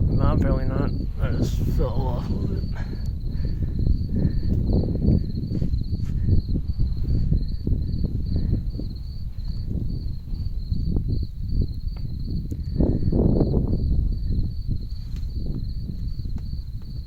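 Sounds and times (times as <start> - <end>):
cricket chirping: 0.0 - 17.0
low rumbling noise: 0.0 - 17.0.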